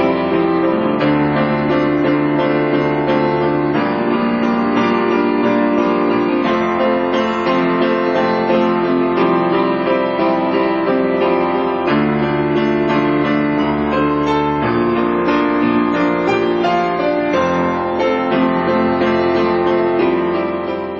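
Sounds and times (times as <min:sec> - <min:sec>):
slow piano chords: 0:00.0 - 0:20.9.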